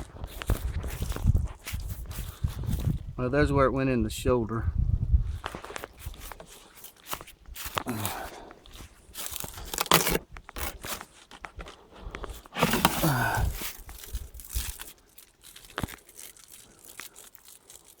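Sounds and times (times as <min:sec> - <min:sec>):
carcass rustling and tearing: 0:00.0 - 0:03.0, 0:05.3 - 0:18.0.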